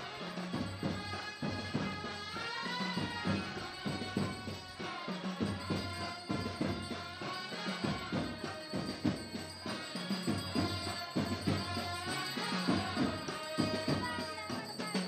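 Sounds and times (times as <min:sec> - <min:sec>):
drum and percussion beats: 0:00.0 - 0:15.0
wind instruments melody: 0:00.0 - 0:15.0.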